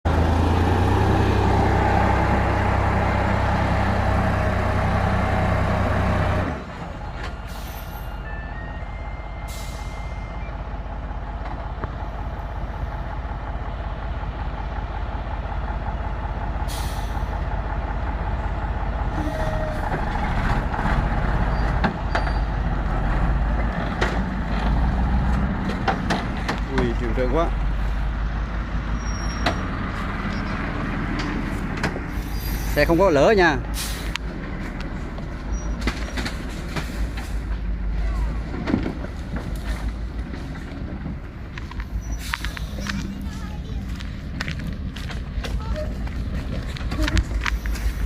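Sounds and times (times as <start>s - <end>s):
truck diesel engine under load: 0.0s - 48.0s.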